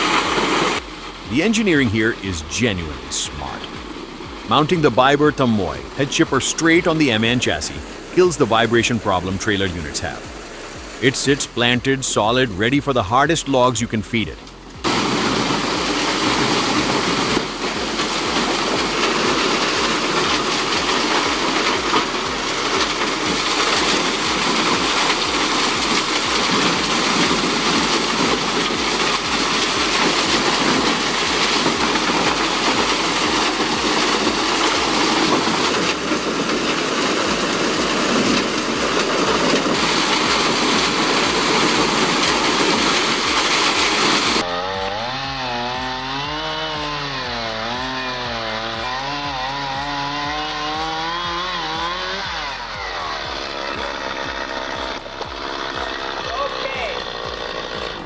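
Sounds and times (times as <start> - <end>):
wood chipper running: 0.0 - 8.3, 14.5 - 58.0.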